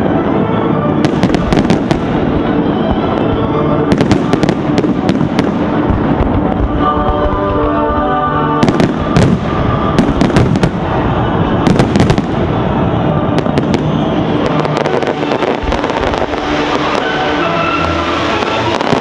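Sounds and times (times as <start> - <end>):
fireworks bangs and crackles: 0.0 - 19.0
music: 0.0 - 19.0.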